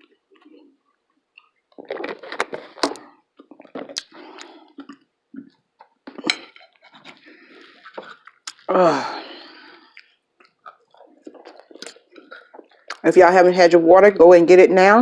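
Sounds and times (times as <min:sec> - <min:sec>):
chewing with wet mouth smacks: 0:00.0 - 0:08.7, 0:09.7 - 0:13.0.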